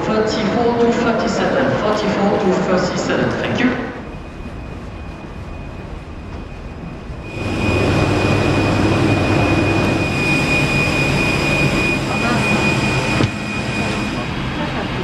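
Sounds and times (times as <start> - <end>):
airliner systems whine and rumble: 0.0 - 15.0.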